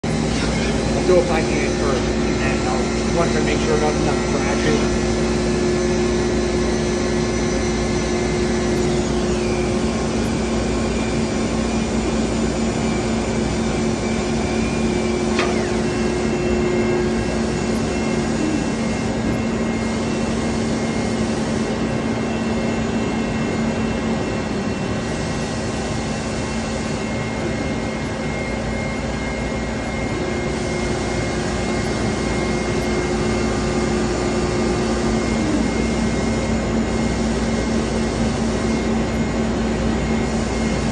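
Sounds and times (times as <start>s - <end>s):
lathe humming with whine: 0.0s - 40.9s.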